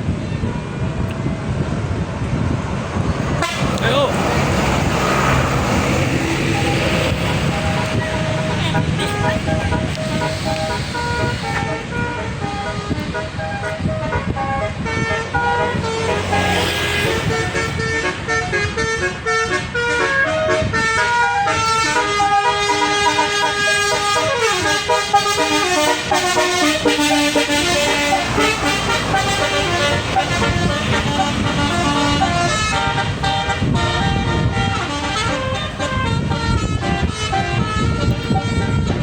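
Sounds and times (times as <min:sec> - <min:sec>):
multi-trumpet bus horn tune: 0:00.4 - 0:39.0.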